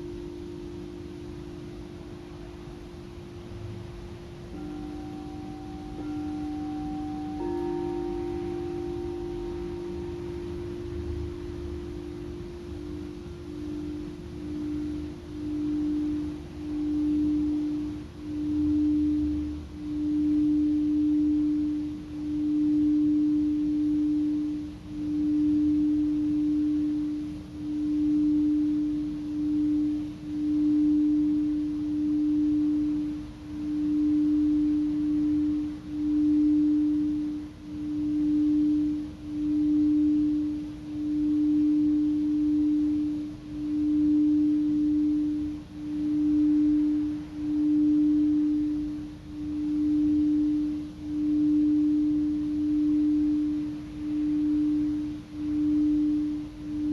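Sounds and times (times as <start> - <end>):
singing bowl tone: 0.0 - 56.9.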